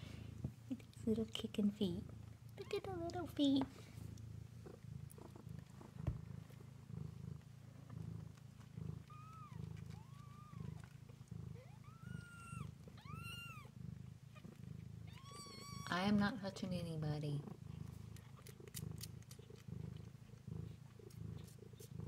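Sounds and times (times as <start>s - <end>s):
cats purring: 0.0s - 22.0s.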